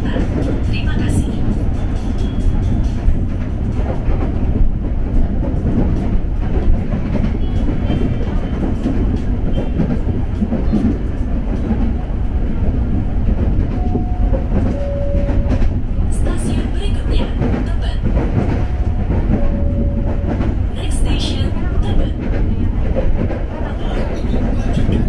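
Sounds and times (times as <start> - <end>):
electric train rumbling on rails: 0.0 - 25.0
train wheels clicking: 0.0 - 25.0.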